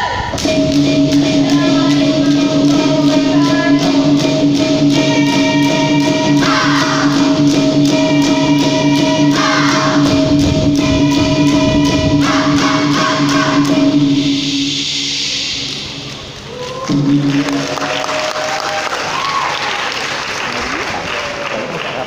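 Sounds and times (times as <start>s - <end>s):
steady held drone: 0.0s - 18.4s
fast percussion strokes: 0.2s - 18.8s.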